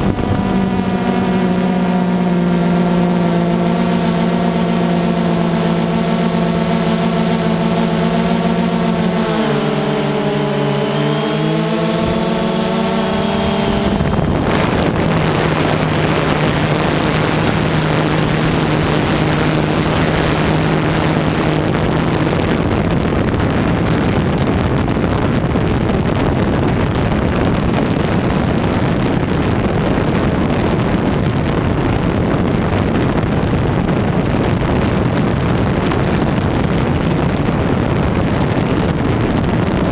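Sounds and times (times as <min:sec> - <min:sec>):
drone propellers whining: 0:00.0 - 0:39.9
steady rushing noise: 0:00.0 - 0:39.9.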